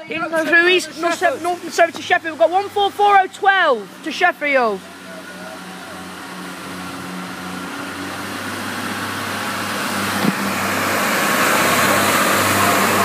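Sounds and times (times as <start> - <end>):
diesel engines humming: 0.0 - 13.0.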